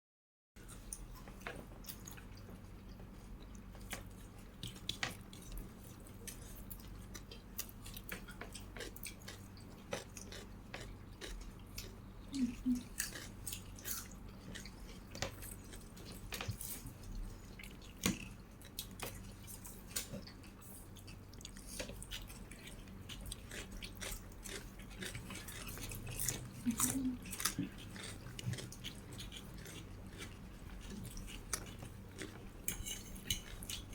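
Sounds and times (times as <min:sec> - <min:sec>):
person chewing food: 0:00.6 - 0:33.9.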